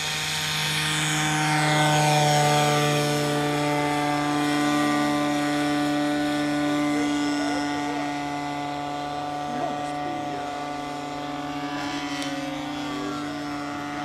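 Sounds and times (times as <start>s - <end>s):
model plane motor droning: 0.0s - 14.0s.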